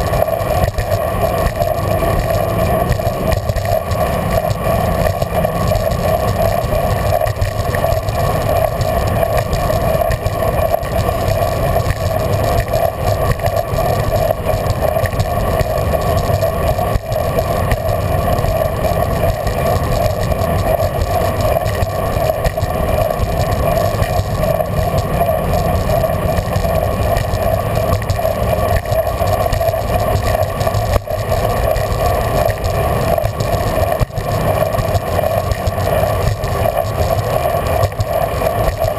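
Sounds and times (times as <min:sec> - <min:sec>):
bicycle tyres on pavement: 0:00.0 - 0:38.9
constant mid-pitched hum: 0:00.0 - 0:38.9.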